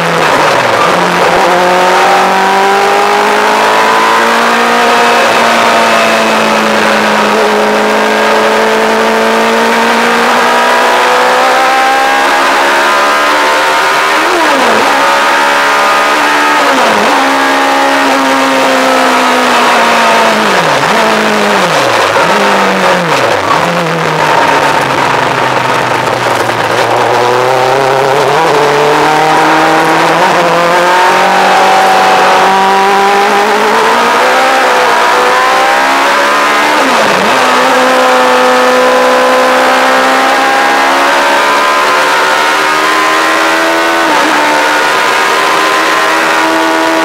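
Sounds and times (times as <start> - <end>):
engine revving at high revs: 0.0 - 47.0.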